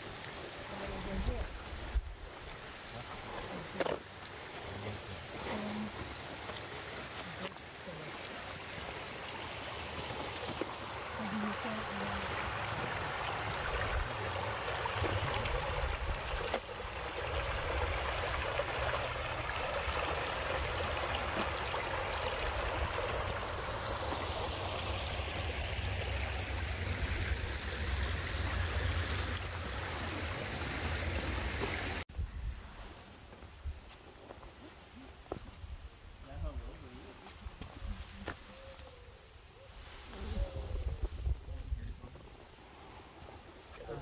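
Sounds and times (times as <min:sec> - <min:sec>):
creek running over rocks: 0:00.0 - 0:32.1, 0:33.2 - 0:44.0.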